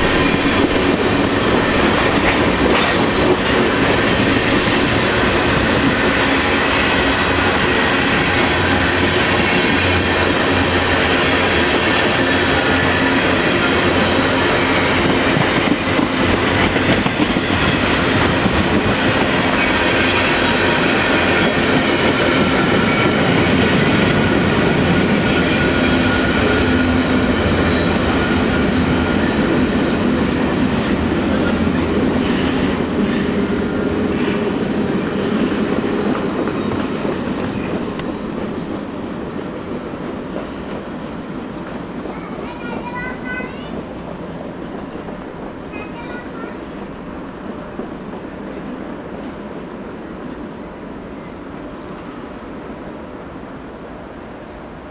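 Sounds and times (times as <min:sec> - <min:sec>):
freight train wheels on rails: 0:00.0 - 0:54.9.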